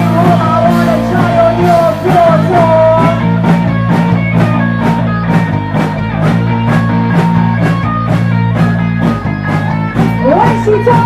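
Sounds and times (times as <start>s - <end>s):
bass guitar: 0.0s - 11.0s
drum kit steady beat: 0.0s - 11.0s
electric guitar: 0.0s - 11.0s.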